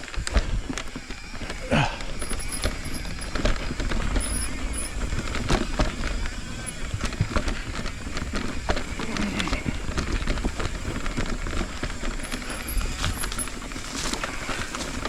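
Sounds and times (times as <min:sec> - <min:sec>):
bike knocks and rattles: 0:00.0 - 0:15.0
bike tyres on dirt and rock: 0:00.0 - 0:15.0.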